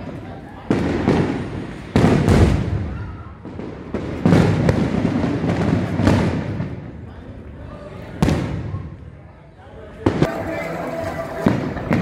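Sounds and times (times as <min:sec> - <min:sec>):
fireworks bangs: 0:00.0 - 0:09.2, 0:10.0 - 0:12.0.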